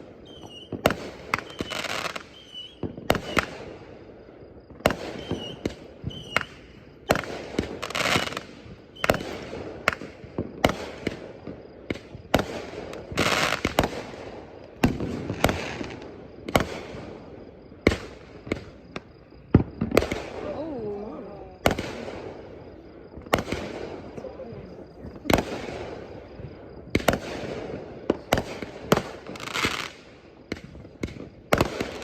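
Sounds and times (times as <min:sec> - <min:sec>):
firework bangs: 0:00.0 - 0:32.0
fireworks hissing and crackling: 0:00.0 - 0:32.0.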